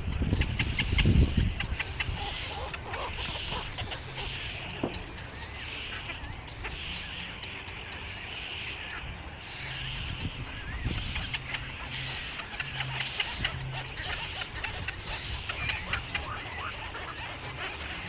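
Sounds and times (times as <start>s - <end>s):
birds raspy calls: 0.0s - 18.0s.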